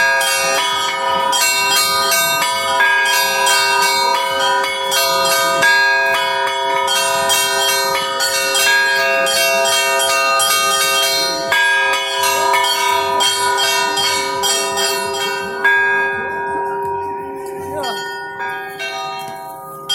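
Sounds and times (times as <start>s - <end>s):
church bells pealing: 0.0s - 19.9s
steady low bell tone: 0.0s - 19.9s.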